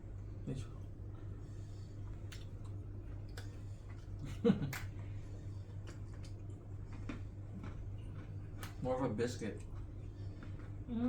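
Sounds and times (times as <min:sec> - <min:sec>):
low room hum: 0:00.0 - 0:11.0
cake being bitten and chewed: 0:01.8 - 0:10.9.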